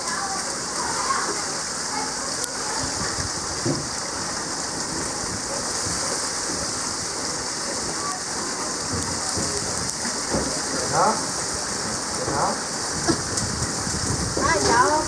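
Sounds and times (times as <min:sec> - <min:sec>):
faint voices: 0:00.0 - 0:13.3
water rushing over rocks: 0:00.0 - 0:15.0.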